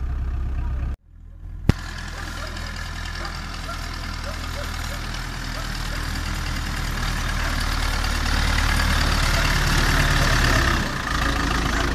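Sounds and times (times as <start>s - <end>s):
tractor diesel engine running: 0.0s - 11.9s.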